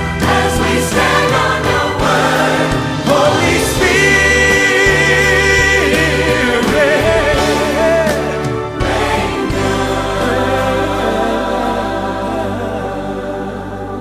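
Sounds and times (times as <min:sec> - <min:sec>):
gospel choir singing: 0:00.0 - 0:14.0
instrumental accompaniment: 0:00.0 - 0:14.0.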